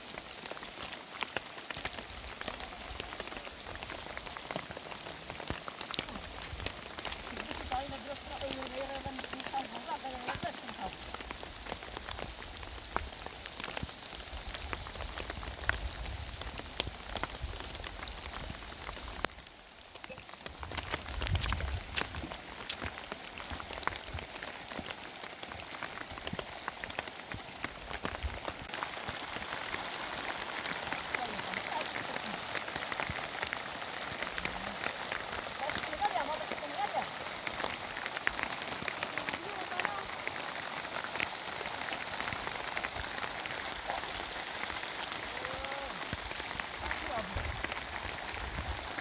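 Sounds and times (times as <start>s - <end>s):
rain drops ticking: 0.0s - 49.0s.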